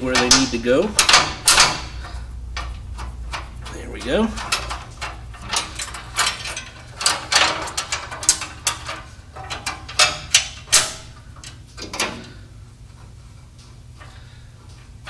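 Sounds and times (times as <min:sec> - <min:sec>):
metal fuel lines clinking: 0:00.0 - 0:15.0.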